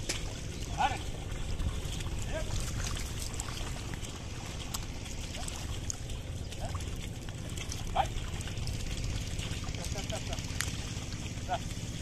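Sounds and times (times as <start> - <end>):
steady low rumble: 0.0 - 12.0
water and mud sloshing: 0.0 - 12.0.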